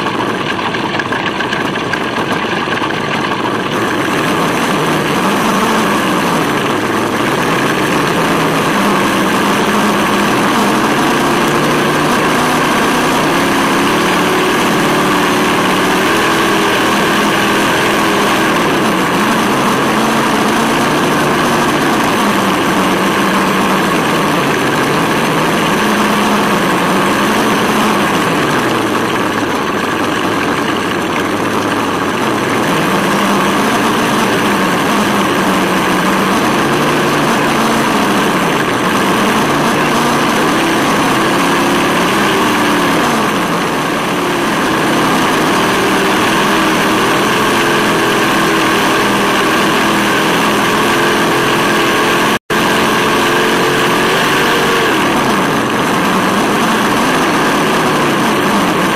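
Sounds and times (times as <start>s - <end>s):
simulated engine note through speaker: 0.0s - 58.9s
steady rushing noise: 0.0s - 58.9s.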